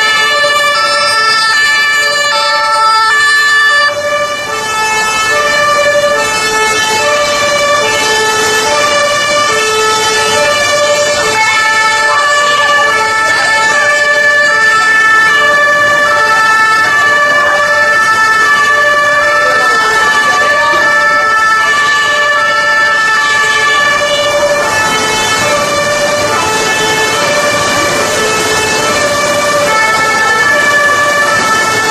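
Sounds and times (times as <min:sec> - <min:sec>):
two-tone emergency sirens: 0:00.0 - 0:31.9.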